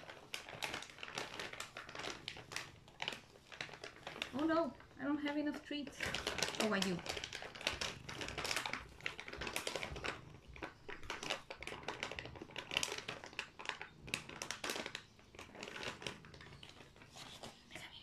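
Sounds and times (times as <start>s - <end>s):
plastic pouch crinkling: 0.0s - 17.1s.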